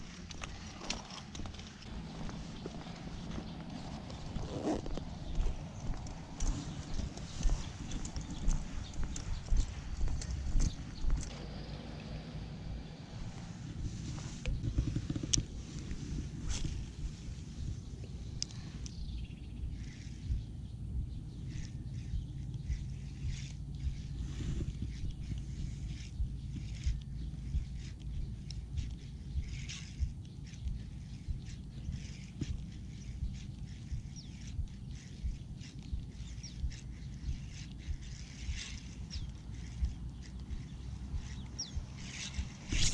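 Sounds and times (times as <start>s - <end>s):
low wind rumble on microphone: 0.0s - 42.9s.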